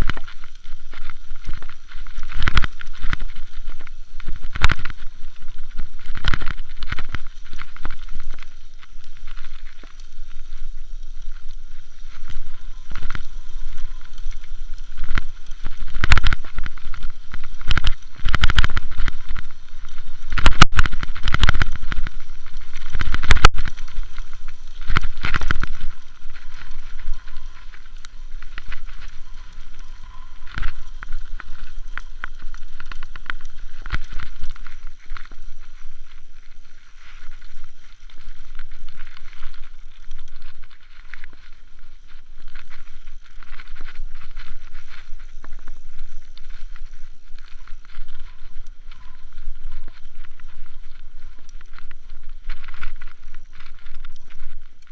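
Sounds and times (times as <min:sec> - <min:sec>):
wind rumbling on microphone: 0:00.0 - 0:54.9.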